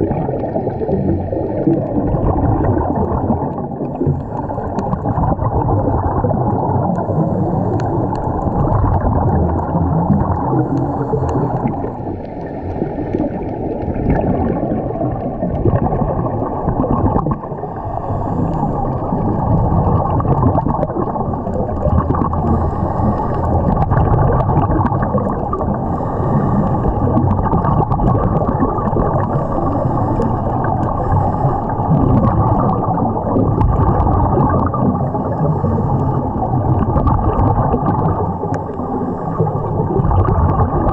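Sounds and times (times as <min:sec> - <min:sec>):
muffled underwater noise: 0:00.0 - 0:40.9
regulator bubbles gurgling: 0:00.0 - 0:40.9.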